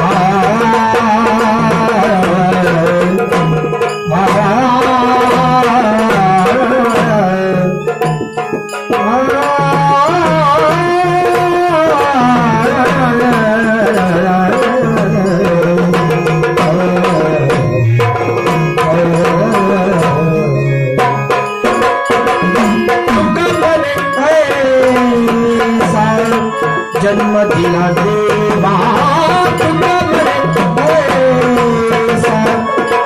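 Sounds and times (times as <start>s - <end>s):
fast stick-beaten drums: 0.0s - 33.0s
person singing melody: 0.0s - 33.0s.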